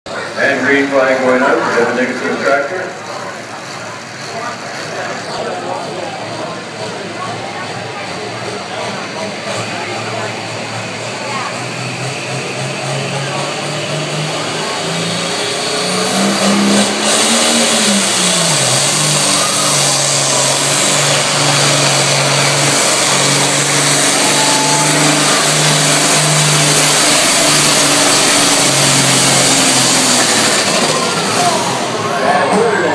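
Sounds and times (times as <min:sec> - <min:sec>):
diesel tractor engine under load: 0:00.1 - 0:32.9.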